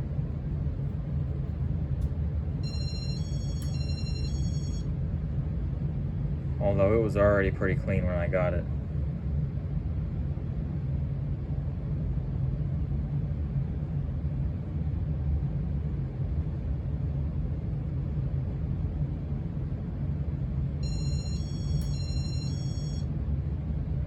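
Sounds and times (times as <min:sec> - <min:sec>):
hvac low rumble: 0:00.0 - 0:24.0.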